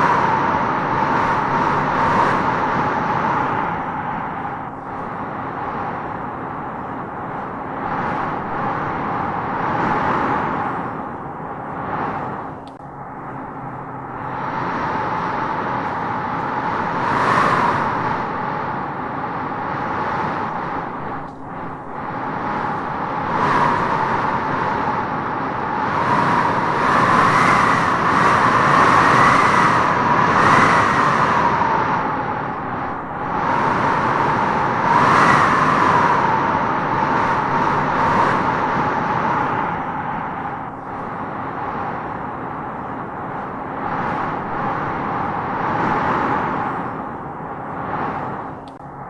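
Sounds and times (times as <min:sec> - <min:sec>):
gusting wind howling: 0:00.0 - 0:49.0.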